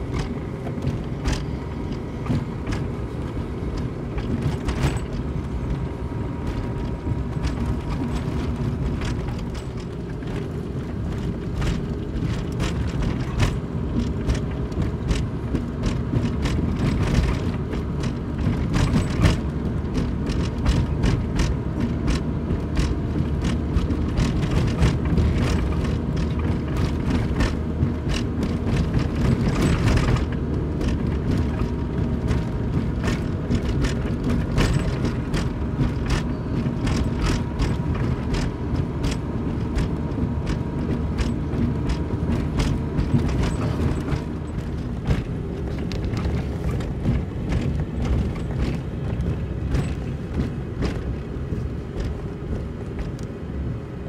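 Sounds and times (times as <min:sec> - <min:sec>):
car engine and tyre rumble: 0:00.0 - 0:54.0
car knocks and rattles over bumps: 0:00.0 - 0:54.0.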